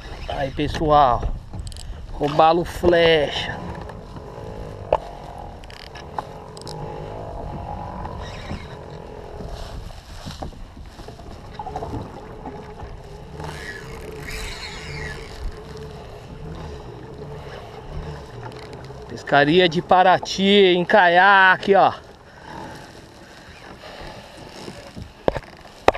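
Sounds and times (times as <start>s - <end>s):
water washing around hull: 0.0s - 25.9s.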